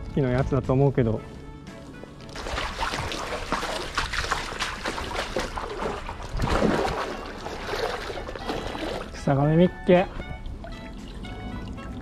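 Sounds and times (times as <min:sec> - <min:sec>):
water splashing around wading person: 0:01.9 - 0:12.0.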